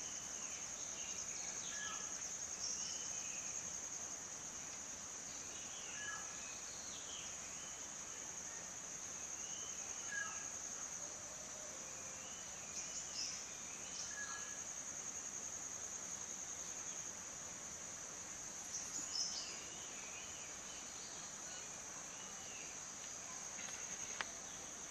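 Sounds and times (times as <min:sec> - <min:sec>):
crickets droning: 0:00.0 - 0:24.9.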